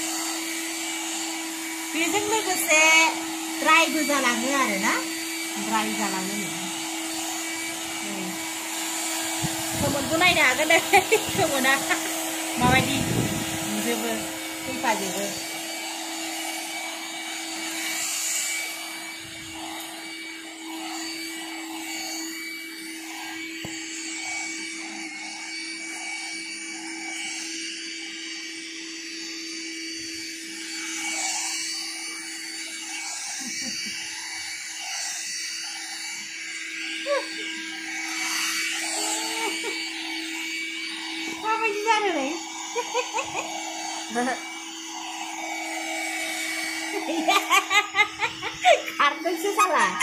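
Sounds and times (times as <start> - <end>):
hair dryer motor whine: 0.0 - 50.0.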